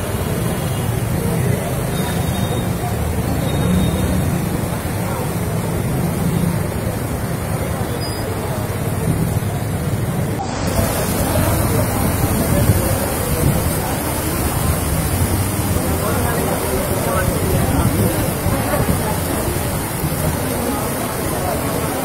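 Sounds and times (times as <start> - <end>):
onlookers chattering: 0.0 - 22.0
traffic rumble: 0.0 - 22.0.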